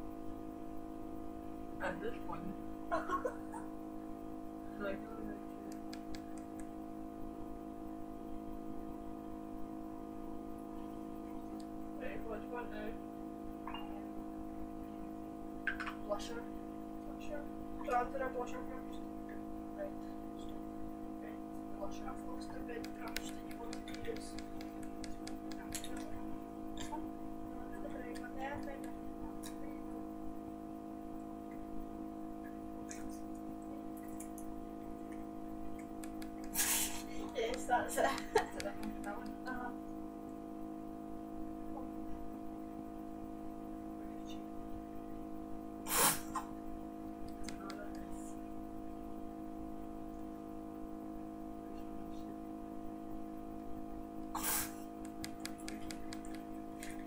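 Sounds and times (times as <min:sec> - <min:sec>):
steady hum of held tones: 0:00.0 - 0:57.0.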